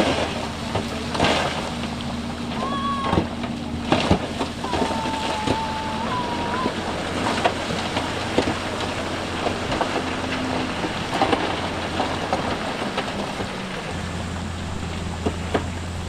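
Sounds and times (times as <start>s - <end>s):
heavy machinery engine hum: 0.0s - 16.0s.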